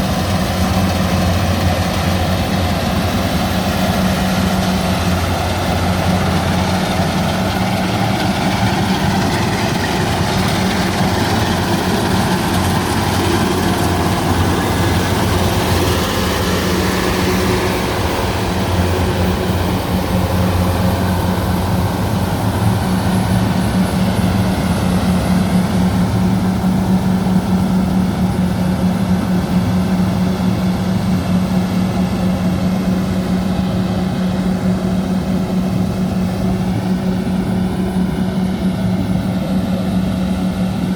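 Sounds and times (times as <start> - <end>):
combine harvester engine humming: 0.0 - 40.9.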